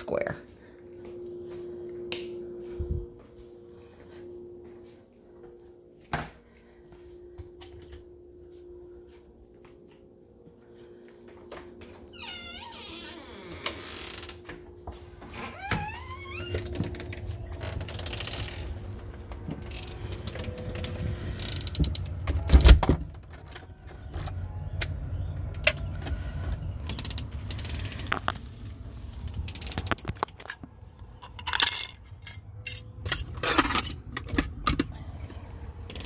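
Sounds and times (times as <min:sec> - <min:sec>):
steady low rumble: 0:00.4 - 0:12.2, 0:16.1 - 0:22.4, 0:24.4 - 0:36.0.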